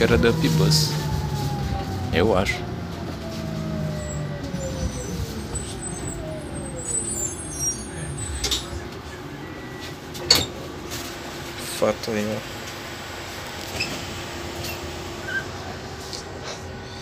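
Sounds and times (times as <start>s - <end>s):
electric bus motor whine: 0.0s - 17.0s
road and body rumble: 0.0s - 17.0s.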